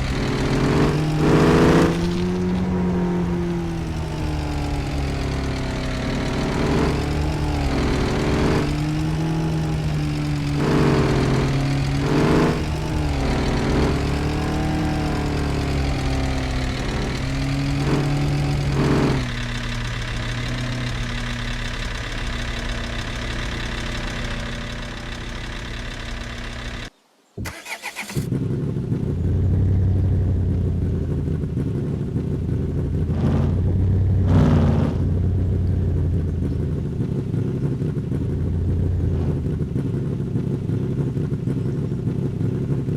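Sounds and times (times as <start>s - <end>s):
low engine rumble: 0.0s - 42.9s
vehicle engine revving: 0.0s - 42.9s.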